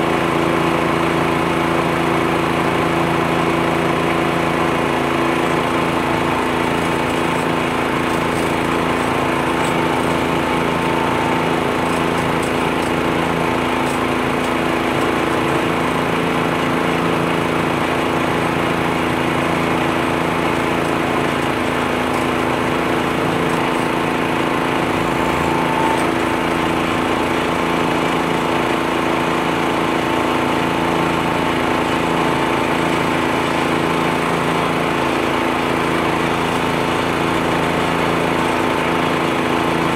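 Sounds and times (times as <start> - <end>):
leaf blower running: 0.0 - 39.9
tractor engine drone: 0.0 - 39.9.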